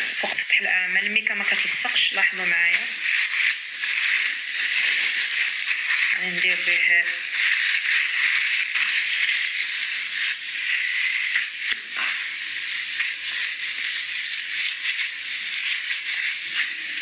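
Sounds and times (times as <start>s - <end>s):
plastic sheet crinkling: 0.0s - 17.0s
steady hiss: 0.0s - 17.0s.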